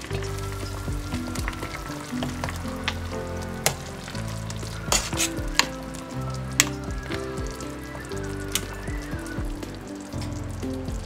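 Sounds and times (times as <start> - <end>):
background music: 0.0 - 11.0
broth bubbling in a pot: 0.0 - 11.0.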